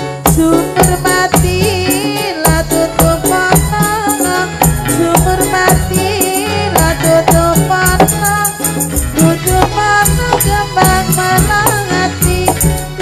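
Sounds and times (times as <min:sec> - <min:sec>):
drums keeping steady beat: 0:00.0 - 0:13.0
jingling percussion: 0:00.0 - 0:13.0.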